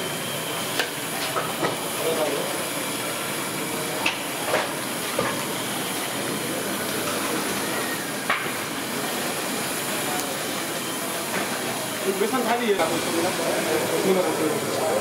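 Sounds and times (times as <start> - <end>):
oil sizzling while deep-frying: 0.0 - 15.0.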